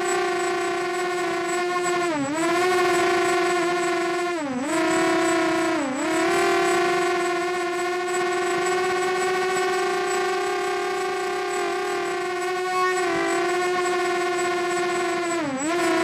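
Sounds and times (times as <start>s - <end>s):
quadcopter propellers whining: 0.0s - 16.0s.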